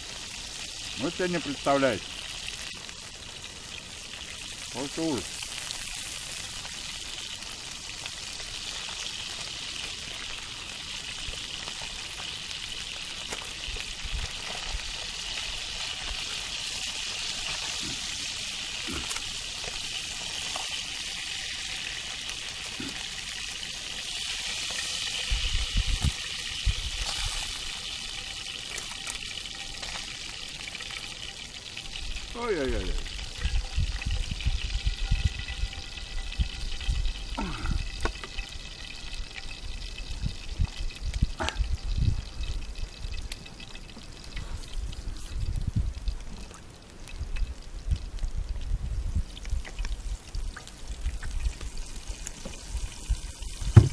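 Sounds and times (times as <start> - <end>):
fish sizzling over fire: 0.0 - 53.9.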